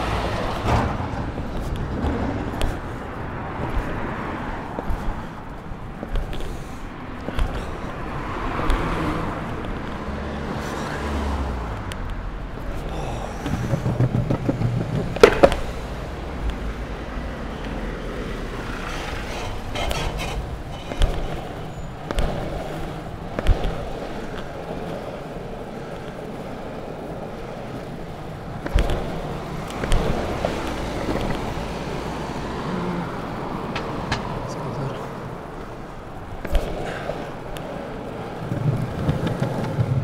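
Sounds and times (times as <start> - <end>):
longboard wheels rolling on pavement: 0.0 - 40.0
wheels clacking over paving joints: 0.0 - 40.0.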